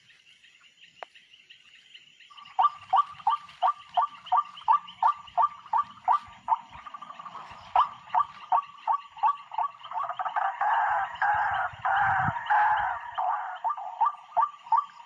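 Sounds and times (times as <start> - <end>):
waterhen calling: 2.4 - 15.0.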